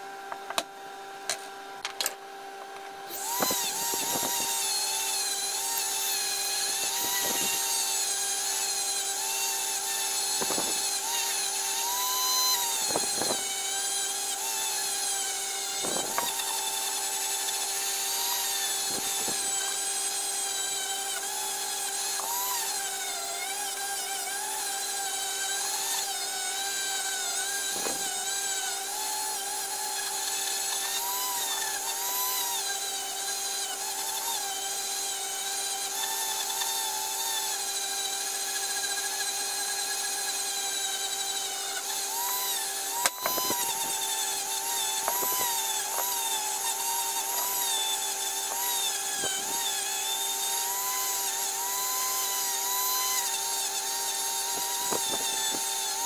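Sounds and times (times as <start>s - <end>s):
die grinder whining: 0.0s - 56.0s.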